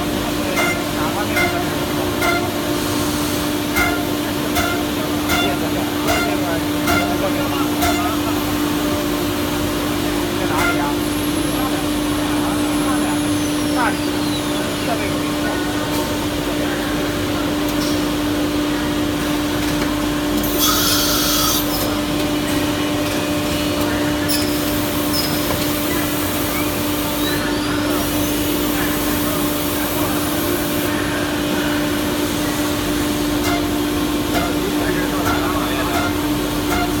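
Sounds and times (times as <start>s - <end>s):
workshop machine noise: 0.0s - 37.0s.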